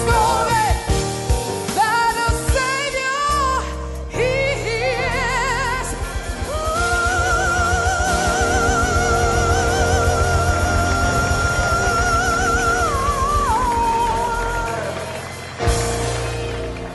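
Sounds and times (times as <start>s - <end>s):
gospel group singing in harmony: 0.0s - 16.1s
live band playing: 0.0s - 16.9s.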